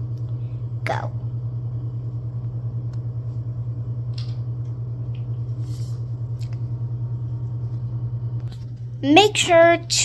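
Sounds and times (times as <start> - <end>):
low pulsing mechanical hum: 0.0 - 10.0.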